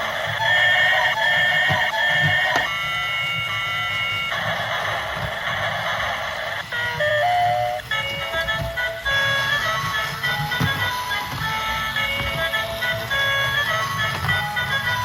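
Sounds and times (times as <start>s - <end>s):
electronic beeping melody: 0.0s - 15.0s.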